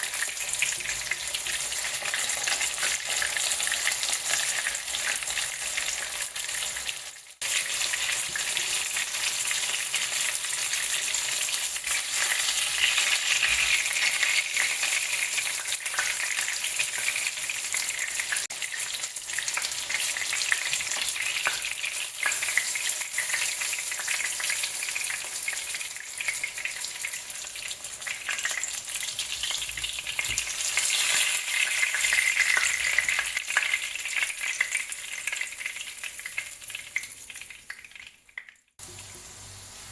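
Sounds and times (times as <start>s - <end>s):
fish deep-frying in hot oil: 0.0s - 39.9s.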